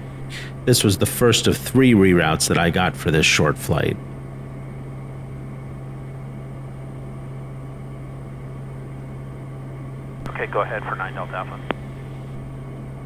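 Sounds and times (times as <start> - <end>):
turboprop cabin drone: 0.0 - 13.0.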